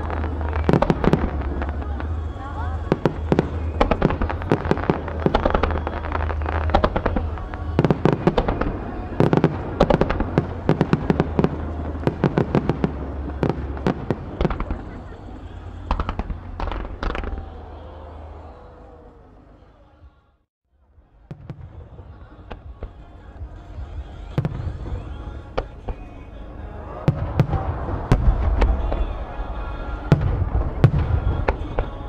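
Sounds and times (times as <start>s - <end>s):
firework crackling: 0.0s - 18.4s, 21.3s - 32.0s.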